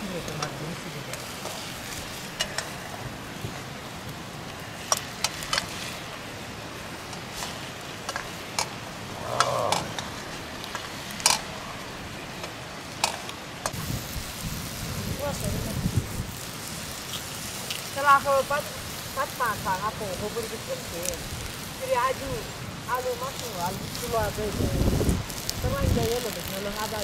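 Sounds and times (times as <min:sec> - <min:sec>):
meat sizzling in a wok: 0:00.0 - 0:27.0.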